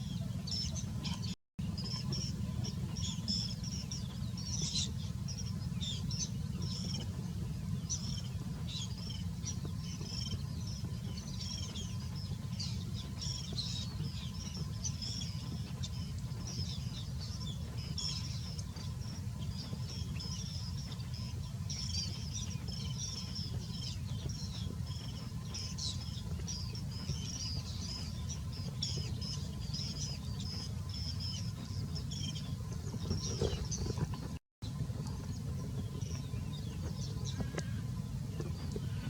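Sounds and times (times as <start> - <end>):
small birds chirping: 0.0 - 39.0
steady low rumble: 0.0 - 39.0.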